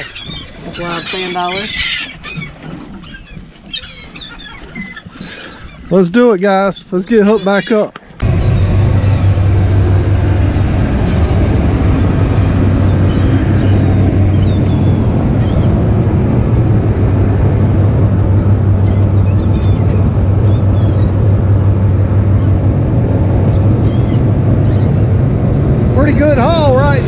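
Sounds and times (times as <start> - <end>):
boat engine droning: 0.0 - 27.0
gulls crying: 0.0 - 27.0.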